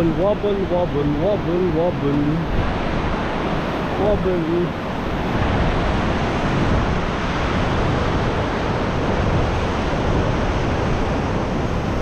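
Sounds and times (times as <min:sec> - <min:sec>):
river rushing: 0:00.0 - 0:12.0
wind buffeting microphone: 0:00.0 - 0:12.0.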